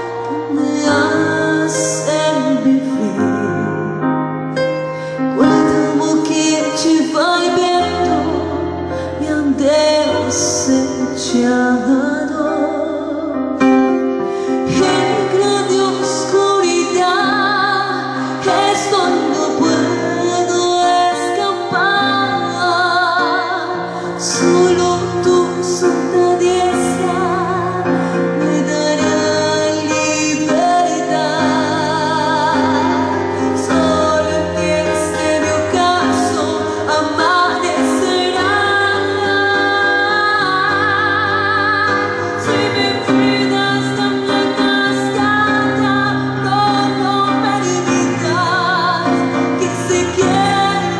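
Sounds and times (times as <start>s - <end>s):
woman singing with vibrato: 0.3s - 3.9s, 5.4s - 50.9s.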